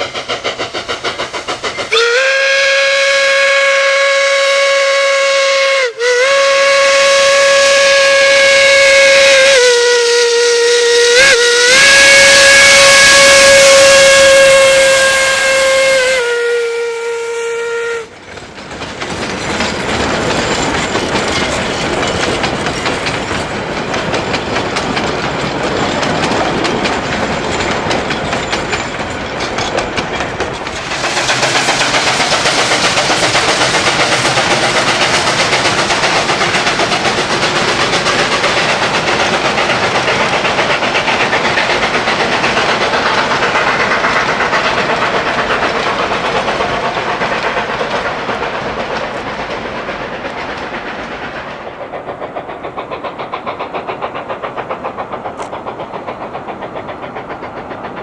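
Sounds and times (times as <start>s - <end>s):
steam train rushing past: 0.0s - 58.0s
train wheels clickety-clack on rail joints: 0.0s - 58.0s.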